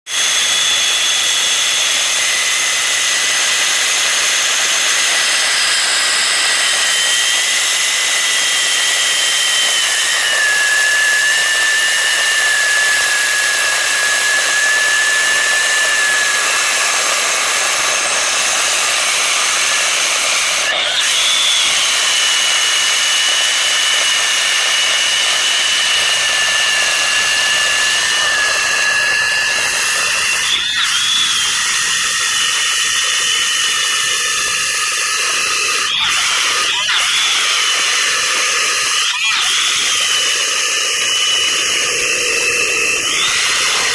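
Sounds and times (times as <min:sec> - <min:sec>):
ring saw cutting concrete: 0:00.0 - 0:43.9.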